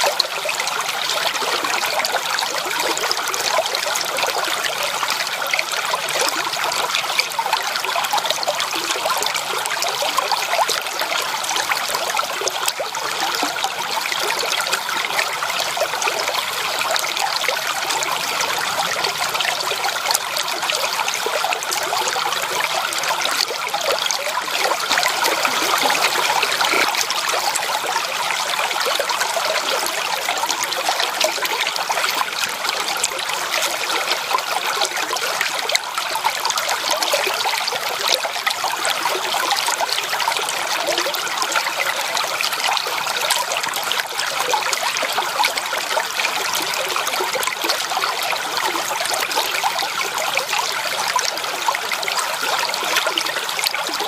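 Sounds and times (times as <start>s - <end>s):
stream water rushing over rocks: 0.0s - 54.0s.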